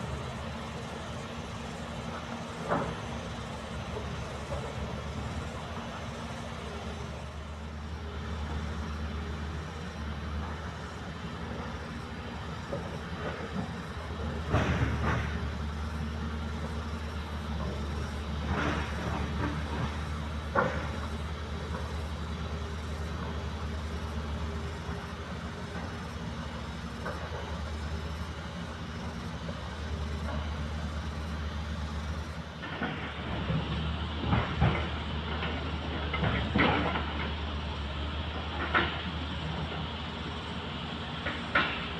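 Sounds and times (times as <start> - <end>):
heavy diesel machinery engine: 0.0 - 41.9.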